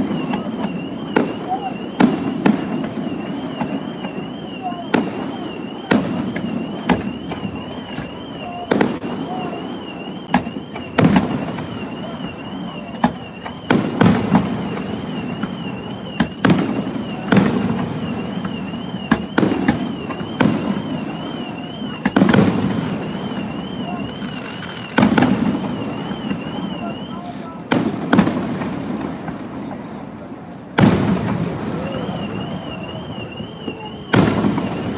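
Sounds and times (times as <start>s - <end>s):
fireworks bursting booms: 0.0s - 34.9s.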